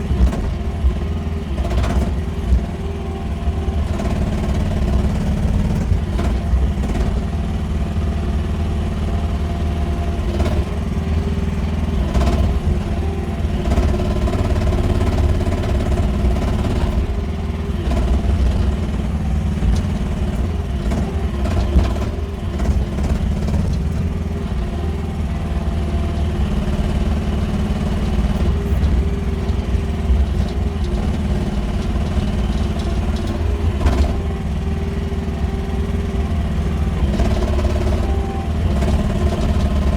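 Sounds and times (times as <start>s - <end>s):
excavator engine running: 0.0s - 39.9s
sharp knocks and clanks: 0.0s - 39.9s.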